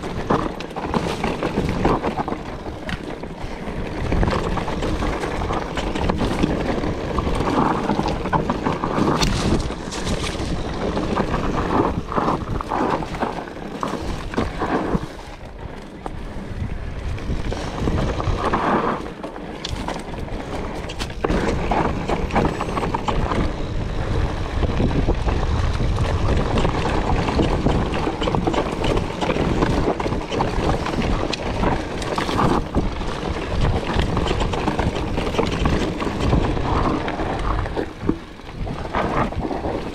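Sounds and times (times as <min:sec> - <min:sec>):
bike rattling: 0:00.0 - 0:39.9
tyres crunching over gravel: 0:00.0 - 0:39.9
wind on microphone: 0:00.0 - 0:39.9.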